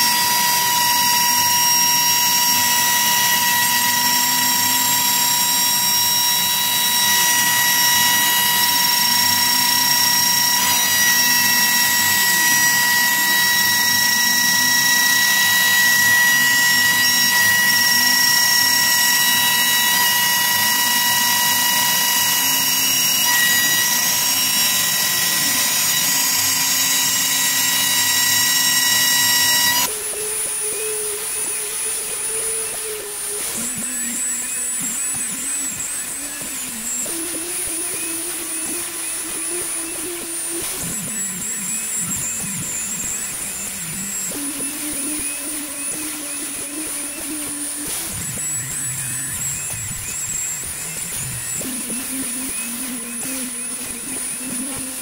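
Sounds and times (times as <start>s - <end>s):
router spindle whine: 0.0s - 55.0s.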